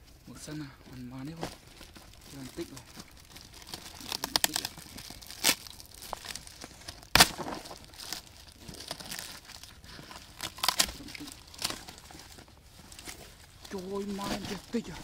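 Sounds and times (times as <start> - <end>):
cardboard tearing and crumpling: 1.5 - 15.0.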